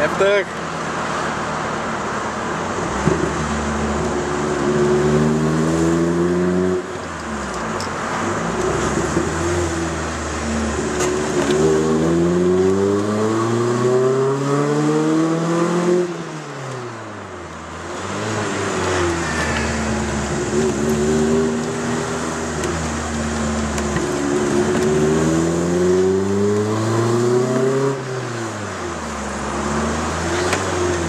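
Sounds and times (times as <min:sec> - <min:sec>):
car engine revving: 0:02.6 - 0:31.0.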